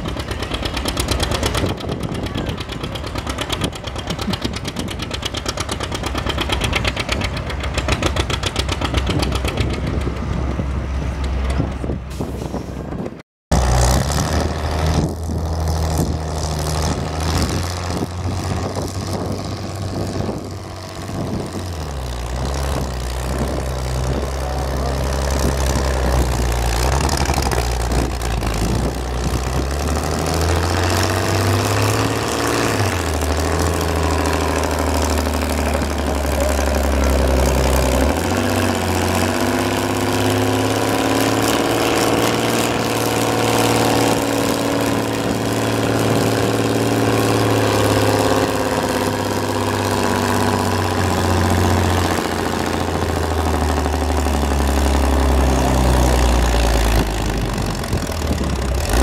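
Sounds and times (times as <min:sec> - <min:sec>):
tractor engine pulsing: 0:00.0 - 0:59.0
tractor engine revving: 0:00.0 - 0:59.0.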